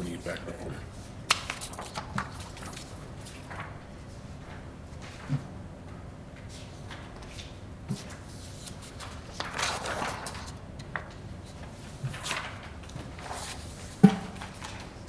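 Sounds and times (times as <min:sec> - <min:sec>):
low steady room hum: 0:00.0 - 0:15.0
paper sheets rustling: 0:01.0 - 0:05.5, 0:06.4 - 0:15.0.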